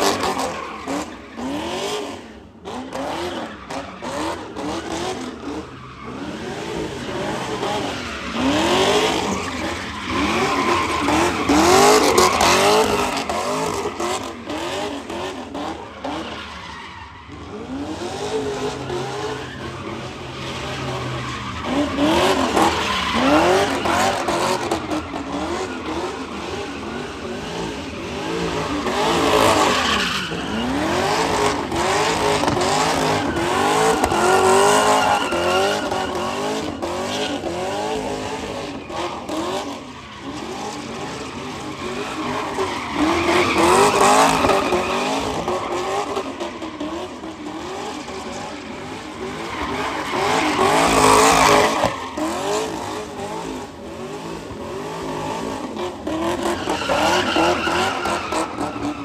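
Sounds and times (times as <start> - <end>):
tyres skidding and squealing: 0.0 - 59.0.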